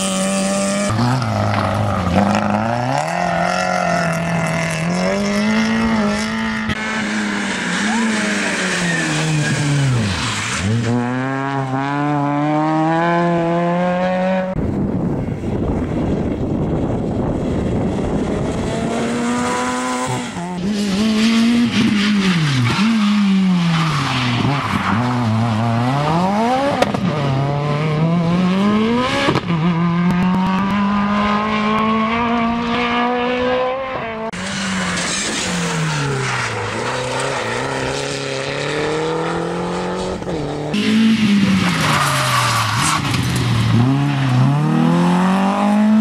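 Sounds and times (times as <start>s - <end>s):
rally car engines revving: 0.0s - 46.0s.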